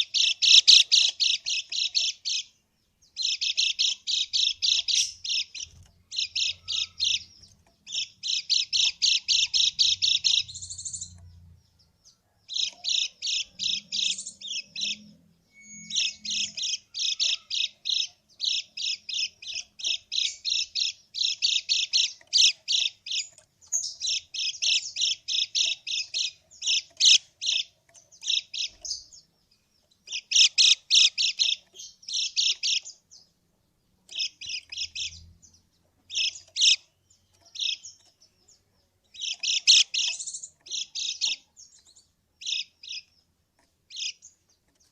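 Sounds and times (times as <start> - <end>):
bird harsh chatter: 0.0 - 2.6, 3.2 - 11.2, 12.5 - 29.3, 30.0 - 33.1, 34.1 - 43.2.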